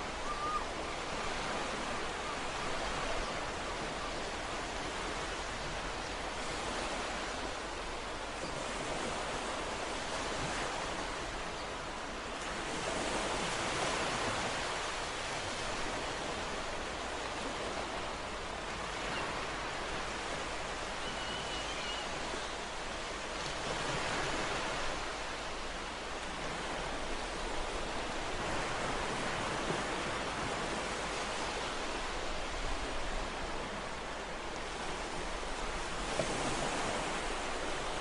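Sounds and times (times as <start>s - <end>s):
ocean surf washing: 0.0s - 38.0s.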